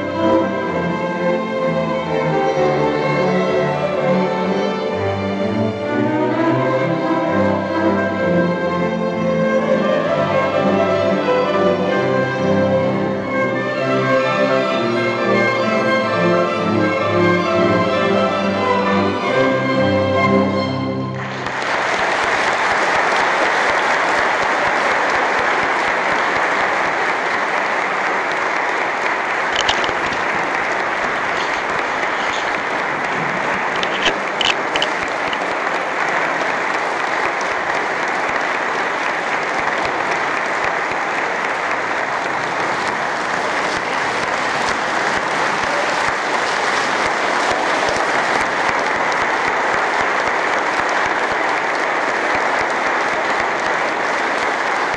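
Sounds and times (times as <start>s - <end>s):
audience applauding: 0.0s - 54.9s.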